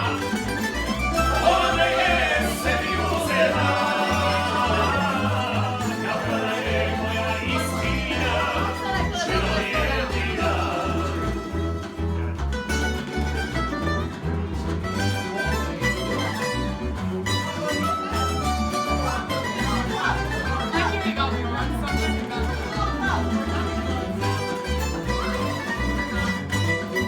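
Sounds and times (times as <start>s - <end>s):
bass line: 0.0s - 27.0s
plucked strings: 0.0s - 27.0s.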